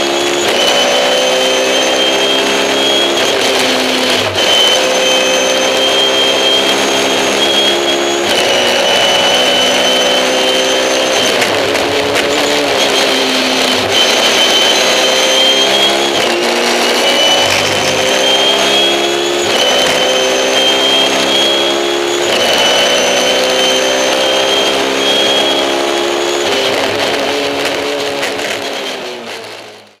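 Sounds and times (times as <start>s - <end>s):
high whine: 0.0s - 29.3s
race car engine revving: 0.0s - 30.0s.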